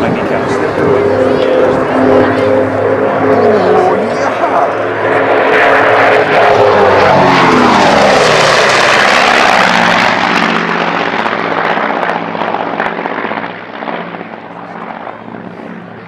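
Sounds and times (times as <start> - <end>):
airplane engines in low pass: 0.0 - 16.0.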